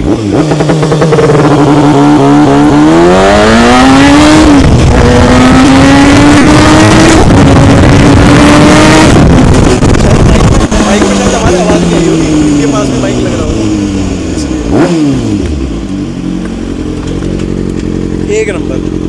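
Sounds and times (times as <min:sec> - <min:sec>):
motorcycle engine accelerating hard: 0:00.0 - 0:19.0.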